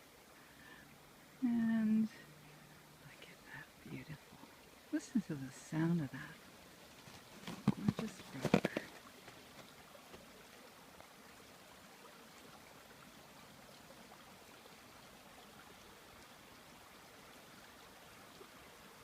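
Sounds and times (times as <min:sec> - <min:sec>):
faint babbling brook: 0:00.0 - 0:19.0.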